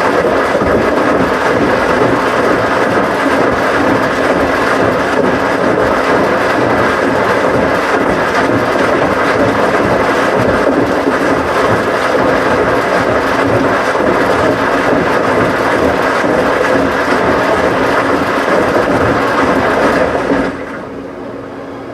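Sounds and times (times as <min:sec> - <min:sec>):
washing machine running: 0:00.0 - 0:21.9.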